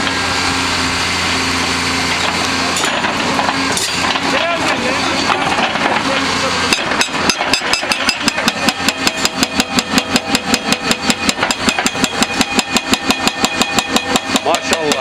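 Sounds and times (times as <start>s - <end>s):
excavator engine running: 0.0s - 15.0s
hydraulic breaker hammering rock: 2.1s - 15.0s.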